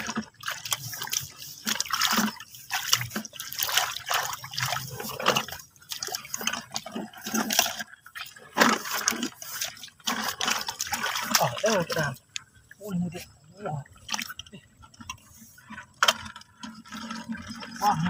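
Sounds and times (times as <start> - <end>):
shallow water splashing and dripping: 0.0 - 18.0.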